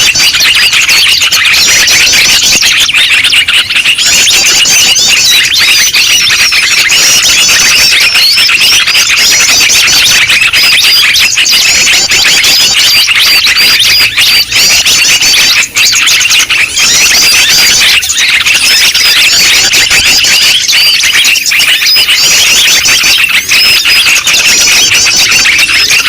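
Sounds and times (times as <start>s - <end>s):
songbirds chirping chorus: 0.0s - 26.0s.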